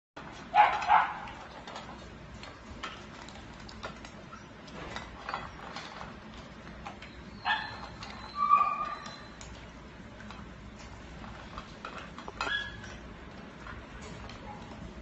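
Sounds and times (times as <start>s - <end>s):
dogs eating from metal bowls: 0.2s - 15.0s.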